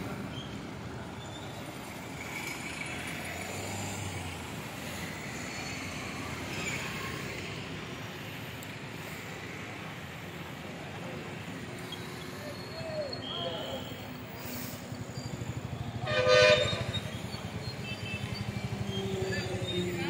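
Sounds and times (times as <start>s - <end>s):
motorcycles riding past: 0.9s - 8.1s, 8.9s - 20.0s.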